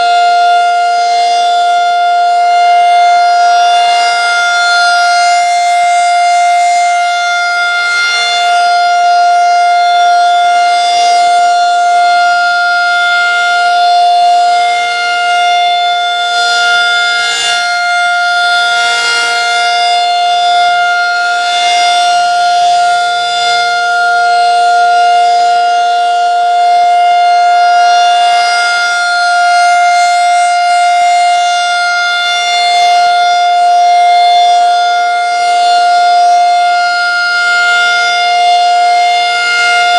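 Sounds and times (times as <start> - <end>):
rotating siren steady tone: 0.0 - 39.9.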